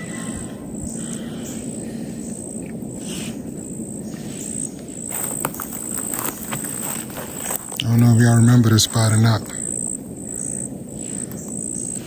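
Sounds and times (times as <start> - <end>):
insects chirping: 0.0 - 12.0
steady background hiss: 0.0 - 12.0.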